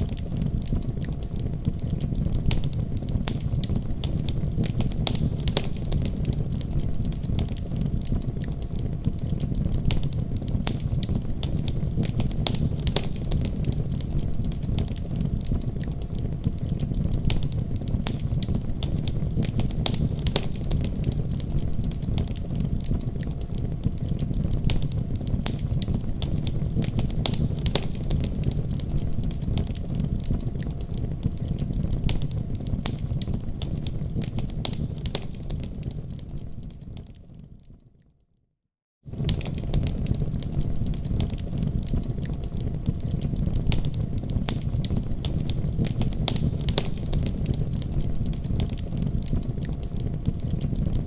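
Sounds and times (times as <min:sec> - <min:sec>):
wood fire crackling and popping: 0:00.0 - 0:37.9, 0:39.1 - 0:51.0.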